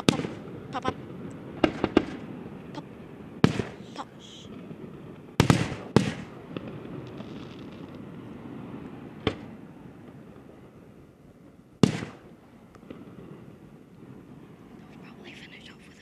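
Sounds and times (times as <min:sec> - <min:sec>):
fireworks bangs: 0:00.0 - 0:10.9, 0:11.8 - 0:14.8
low background rumble: 0:00.0 - 0:16.0.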